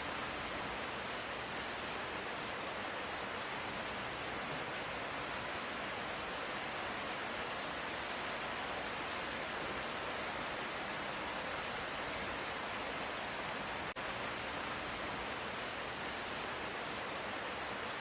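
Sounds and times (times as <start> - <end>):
light rain hiss: 0.0 - 18.0.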